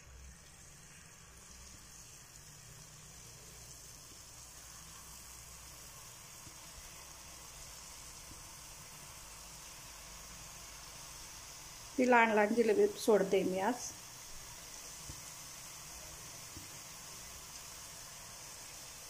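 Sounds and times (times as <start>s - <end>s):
batter sizzling in hot oil: 0.0s - 19.0s.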